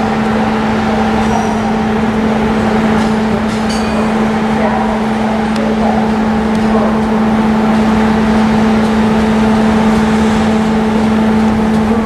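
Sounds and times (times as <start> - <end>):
electric locomotive humming: 0.0 - 12.0.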